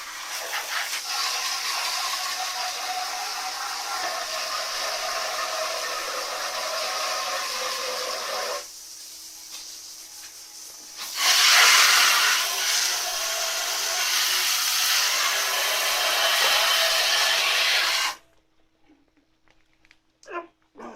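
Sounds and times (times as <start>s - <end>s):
water spraying on metal: 0.0s - 18.2s.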